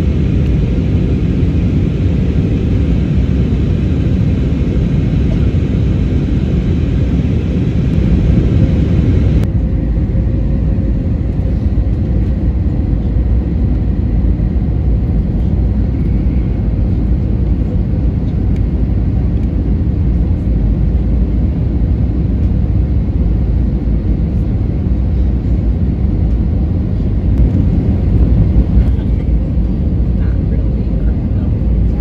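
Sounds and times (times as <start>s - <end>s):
airplane cabin rumble: 0.0s - 32.0s.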